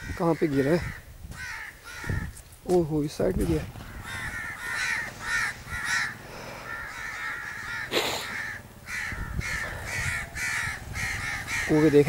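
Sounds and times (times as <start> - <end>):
crows cawing: 0.0 - 2.4, 3.8 - 12.0.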